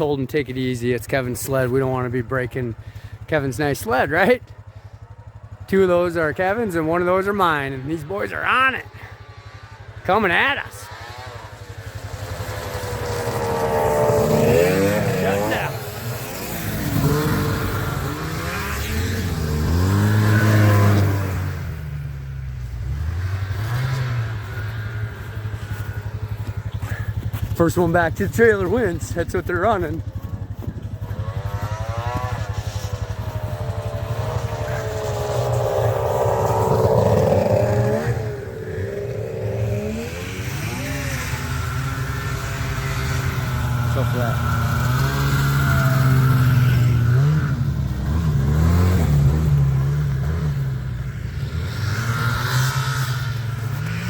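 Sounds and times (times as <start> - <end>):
snowmobile engines revving: 0.0 - 54.0.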